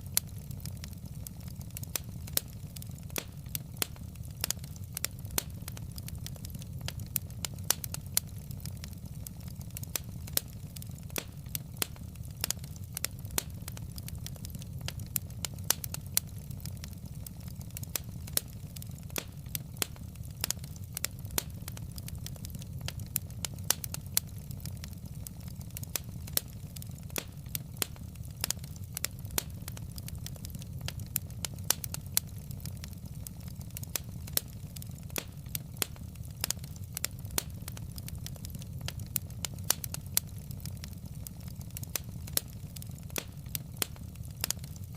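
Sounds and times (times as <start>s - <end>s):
fireplace logs crackling and popping: 0.0s - 44.9s.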